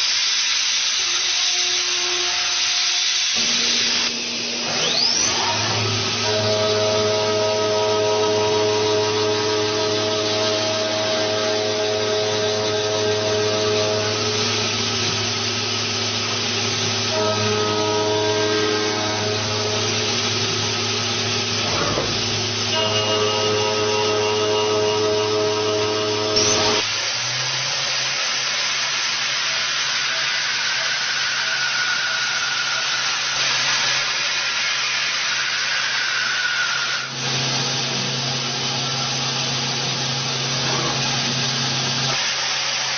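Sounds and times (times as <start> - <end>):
cnc machine whirring: 0.0 - 42.9.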